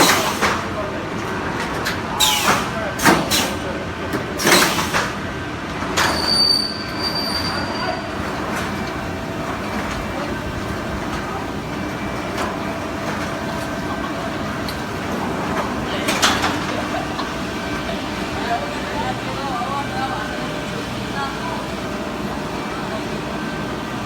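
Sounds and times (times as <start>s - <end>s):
industrial machinery running: 0.0s - 24.0s.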